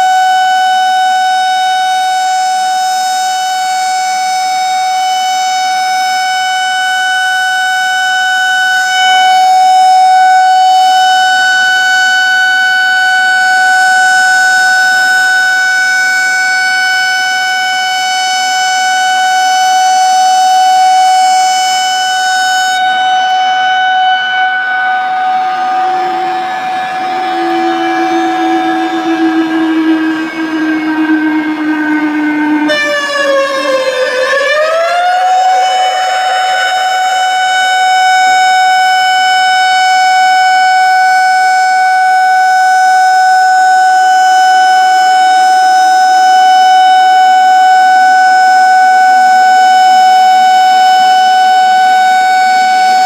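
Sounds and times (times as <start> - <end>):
warning siren steady tone: 0.0 - 53.0.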